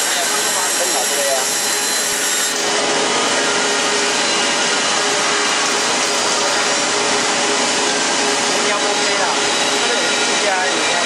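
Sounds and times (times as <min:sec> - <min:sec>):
band saw whirring: 0:00.0 - 0:11.0.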